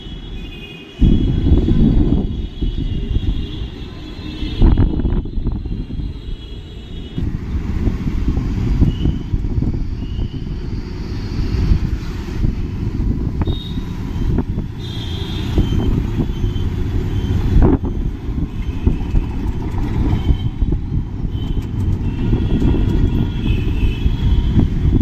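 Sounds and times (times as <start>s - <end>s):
street traffic: 0.0s - 25.0s
wind buffeting microphone: 1.0s - 6.4s, 7.1s - 25.0s.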